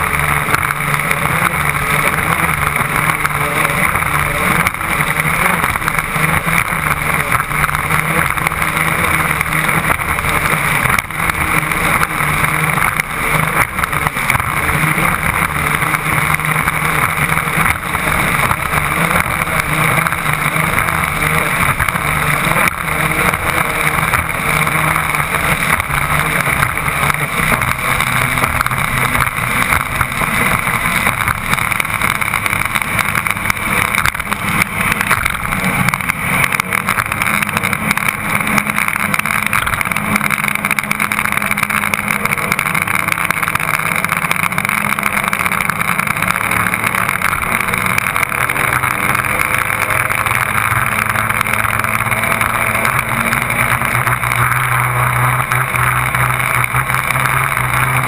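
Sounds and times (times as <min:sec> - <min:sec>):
boat diesel engines running hard: 0:00.0 - 0:58.0
rush of wind and water: 0:00.0 - 0:58.0.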